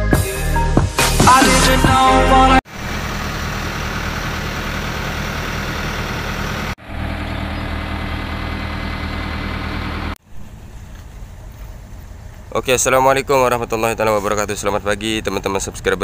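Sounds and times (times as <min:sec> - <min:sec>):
diesel engine idling: 0:02.1 - 0:16.0.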